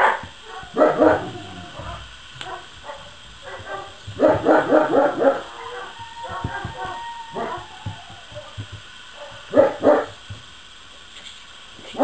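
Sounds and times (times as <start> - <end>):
puppies barking: 0.0 - 10.3.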